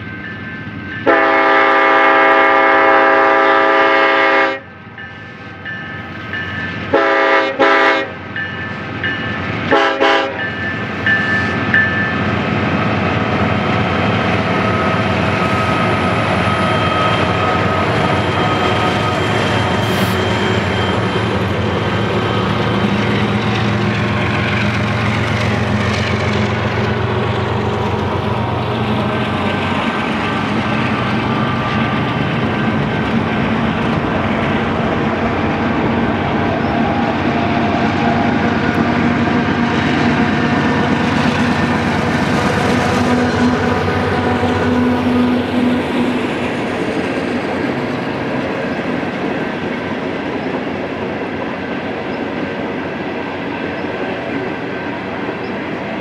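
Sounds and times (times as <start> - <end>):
diesel locomotives running: 0.0 - 56.0
train wheels rolling on rails: 0.0 - 56.0.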